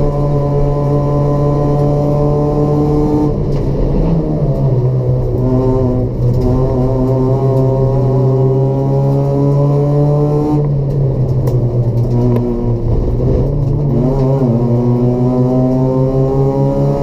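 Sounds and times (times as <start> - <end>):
car engine droning under load: 0.0 - 17.0.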